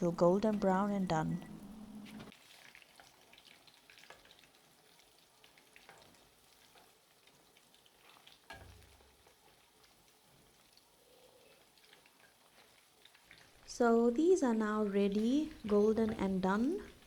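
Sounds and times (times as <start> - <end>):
chicken frying in oil: 2.2 - 17.0.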